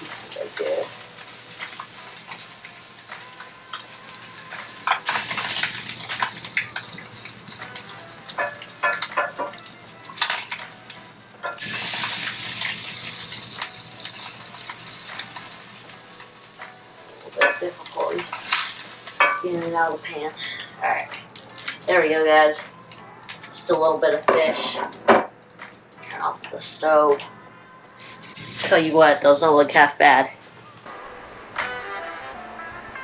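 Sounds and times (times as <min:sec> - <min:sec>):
fish sizzling in a frying pan: 0:00.0 - 0:23.8, 0:28.1 - 0:30.9.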